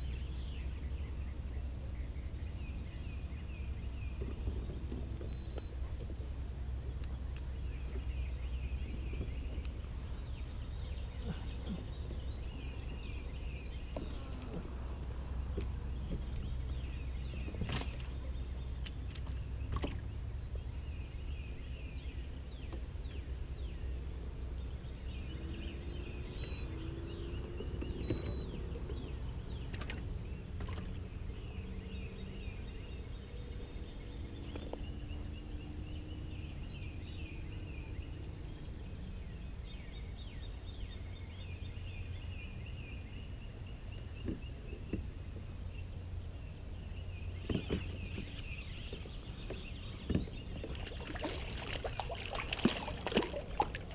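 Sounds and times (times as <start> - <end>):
low background rumble: 0.0 - 53.9
small birds chirping: 6.9 - 53.9.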